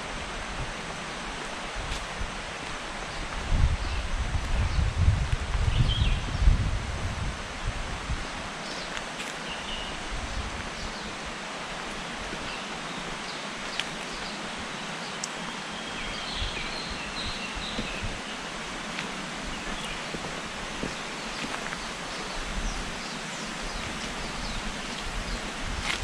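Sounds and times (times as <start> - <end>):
rushing hiss of wind or water: 0.0 - 26.0.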